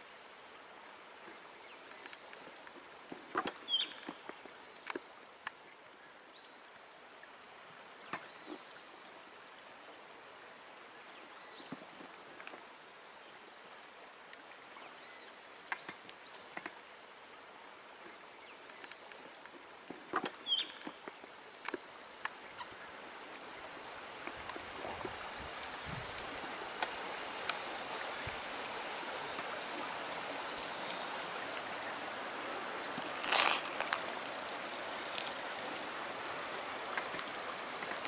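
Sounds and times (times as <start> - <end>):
stream water rushing: 6.6 - 38.0.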